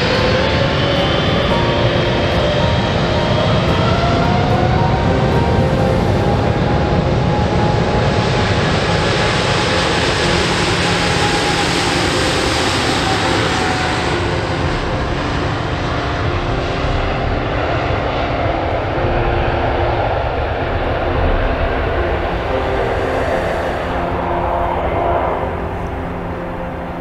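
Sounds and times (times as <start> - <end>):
jet engines rumbling and hissing: 0.0 - 27.0.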